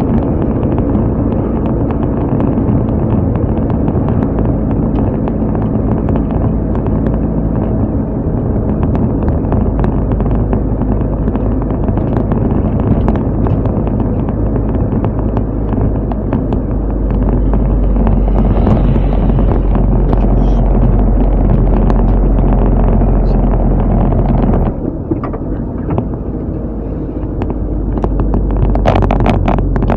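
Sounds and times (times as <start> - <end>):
car engine running: 0.0 - 29.9
road and wind noise: 0.0 - 29.9.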